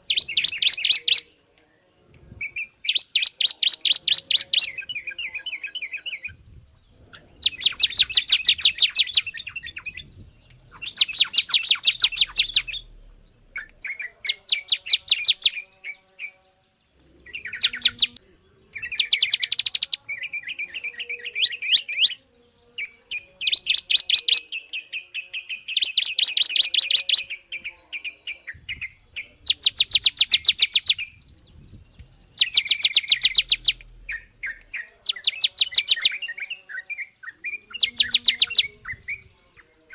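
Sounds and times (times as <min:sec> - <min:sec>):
songbird singing fast trills: 0:00.0 - 0:39.9.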